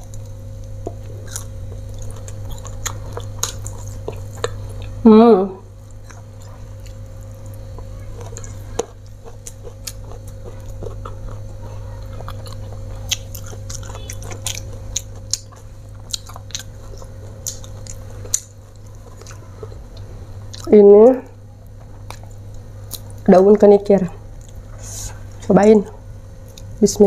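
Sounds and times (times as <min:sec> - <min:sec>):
chewing food: 0:00.0 - 0:05.0, 0:05.7 - 0:20.7, 0:21.6 - 0:23.3, 0:24.3 - 0:24.7
steady low hum: 0:00.0 - 0:27.0.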